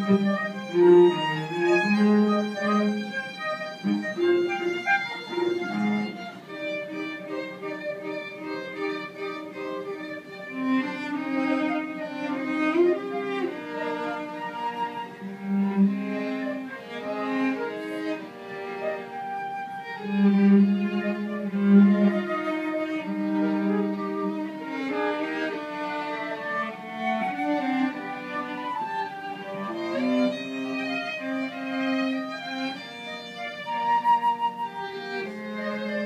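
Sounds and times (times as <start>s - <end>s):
flute violin and cello trio: 0.0s - 36.0s.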